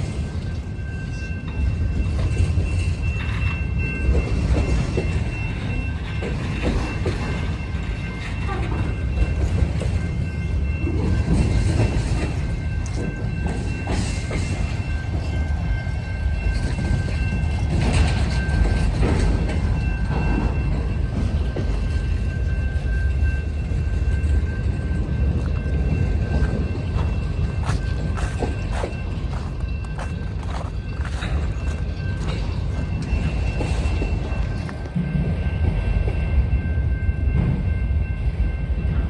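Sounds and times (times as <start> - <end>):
freight train rumble: 0.0 - 39.0.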